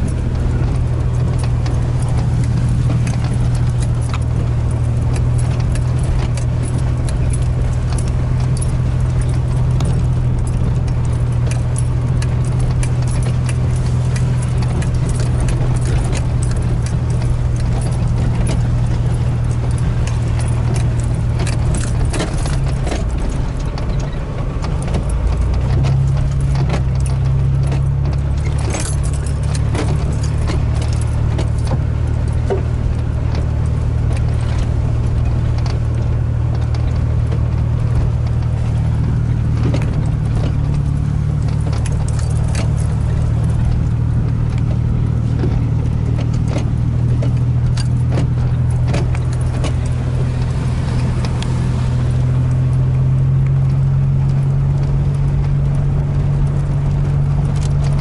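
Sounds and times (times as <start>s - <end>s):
clicks and rattles in cab: 0.0s - 58.0s
vehicle engine droning: 0.0s - 58.0s.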